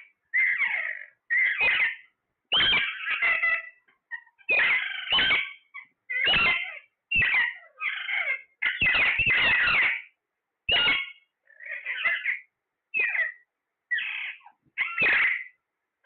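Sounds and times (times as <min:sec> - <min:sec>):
parrot screeching: 0:00.0 - 0:15.6.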